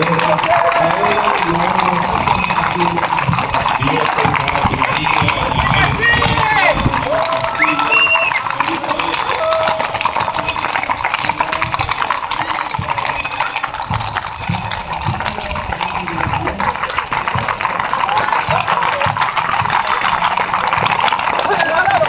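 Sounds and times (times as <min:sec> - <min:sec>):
hooves clattering on asphalt: 0:00.0 - 0:22.0.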